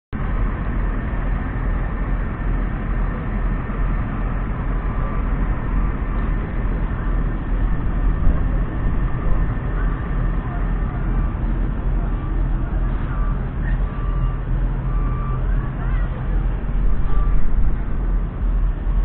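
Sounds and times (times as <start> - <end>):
tractor diesel engine running: 0.1 - 19.0.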